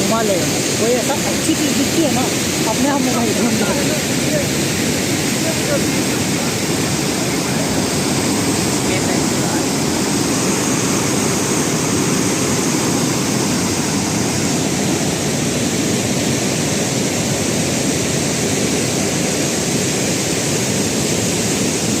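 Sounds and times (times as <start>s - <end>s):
falling water rushing: 0.0s - 22.0s.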